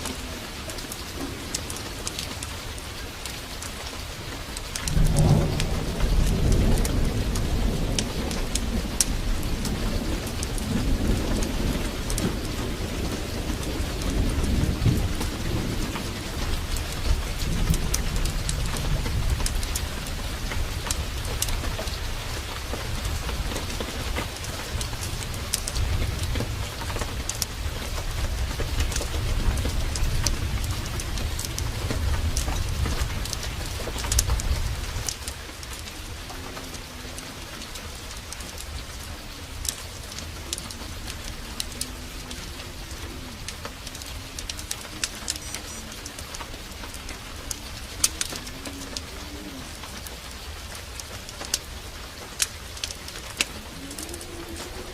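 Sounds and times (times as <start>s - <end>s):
heavy rain: 0.0s - 54.9s
low rolling thunder: 0.0s - 54.9s
sharp crackles and ticks: 0.0s - 54.9s.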